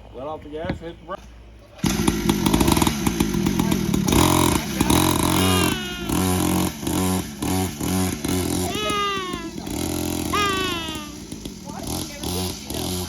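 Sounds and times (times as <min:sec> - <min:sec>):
dirt bike engine revving: 0:01.8 - 0:13.0.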